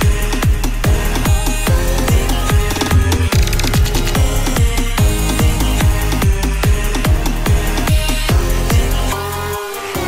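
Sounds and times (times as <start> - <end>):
electronic music with kick-drum beat: 0.0 - 10.0.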